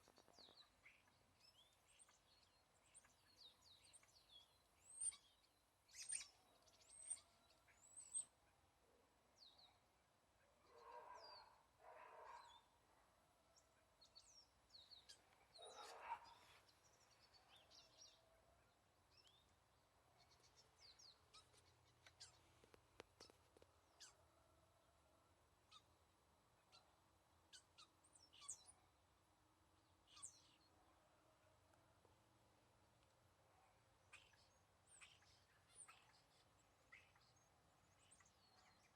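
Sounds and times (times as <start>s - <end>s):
faint birds chirping: 0.0s - 38.9s.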